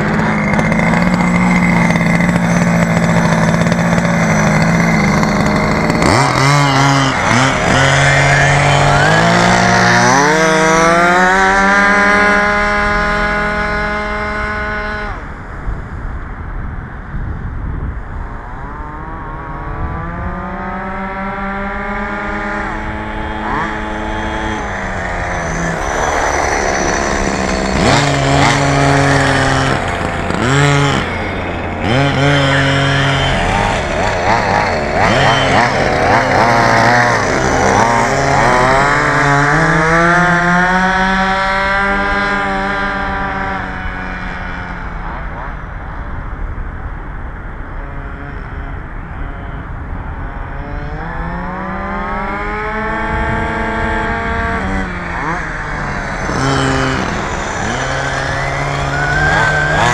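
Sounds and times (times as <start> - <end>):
rc buggy engine revving: 0.0 - 15.7, 18.4 - 46.9, 47.6 - 59.9.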